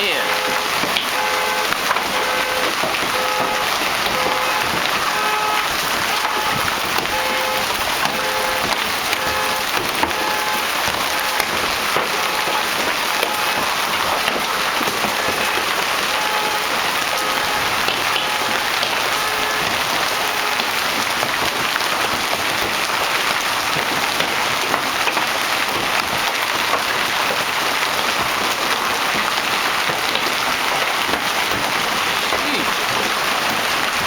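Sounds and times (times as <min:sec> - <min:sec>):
hail and heavy rain pelting: 0:00.0 - 0:34.0.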